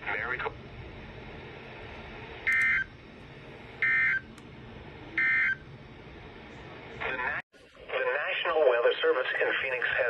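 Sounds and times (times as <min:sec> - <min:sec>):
steady radio hiss: 0:00.0 - 0:02.5, 0:04.4 - 0:10.0.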